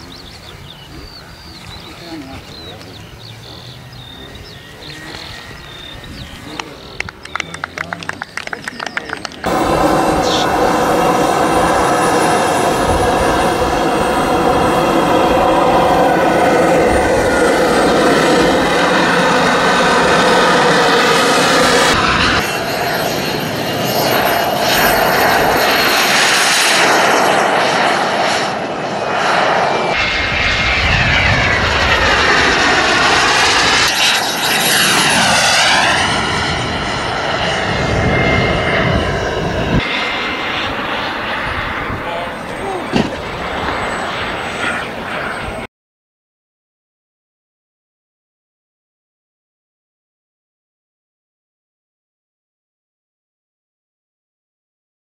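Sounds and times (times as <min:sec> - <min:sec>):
jets flying past: 0:00.0 - 0:45.7
model jet turbine whine: 0:00.0 - 0:45.7.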